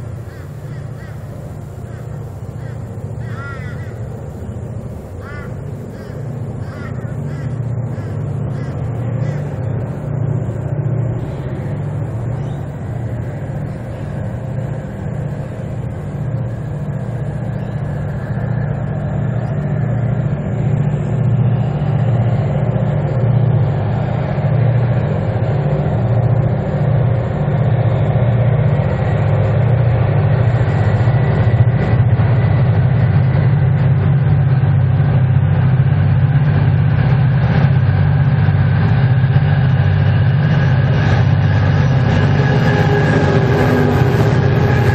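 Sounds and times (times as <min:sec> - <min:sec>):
diesel locomotives throbbing: 0:00.0 - 0:44.9.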